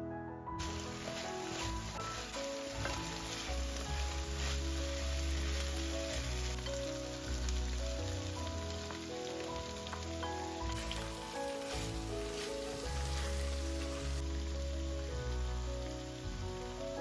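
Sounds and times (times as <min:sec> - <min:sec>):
background music of held notes: 0:00.0 - 0:17.0
food sizzling in oil: 0:00.6 - 0:17.0.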